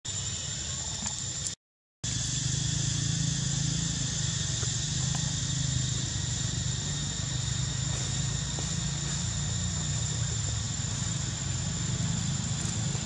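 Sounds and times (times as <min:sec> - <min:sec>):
high insect drone: 0:00.1 - 0:13.0.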